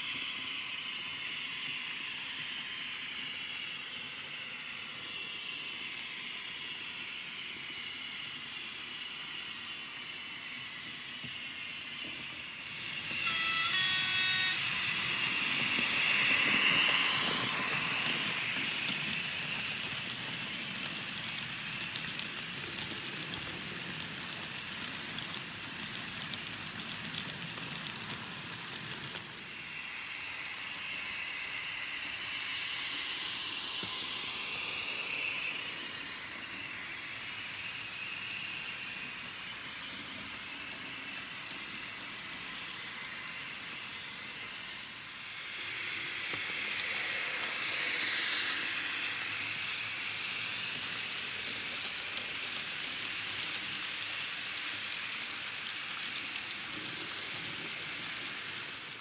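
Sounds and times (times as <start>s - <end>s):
model train running on rails: 0.0s - 59.0s.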